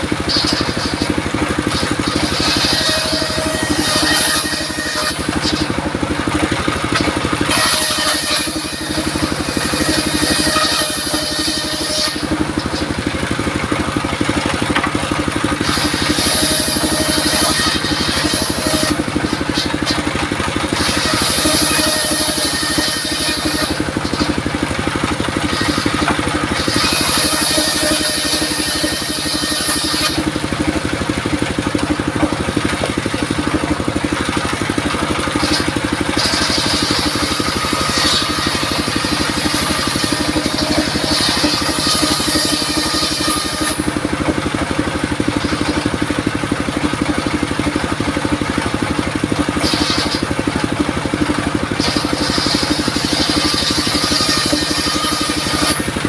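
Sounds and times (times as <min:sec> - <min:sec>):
diesel engine running: 0:00.0 - 0:56.0
saw blade ripping through wood: 0:00.0 - 0:56.0.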